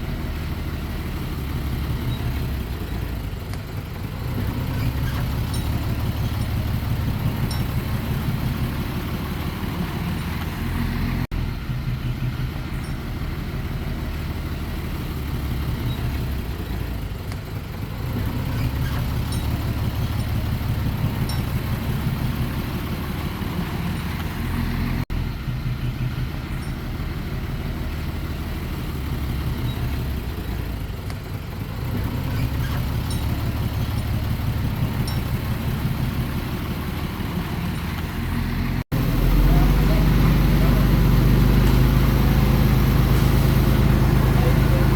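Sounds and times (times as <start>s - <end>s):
heavy diesel engine working: 0.0s - 44.9s.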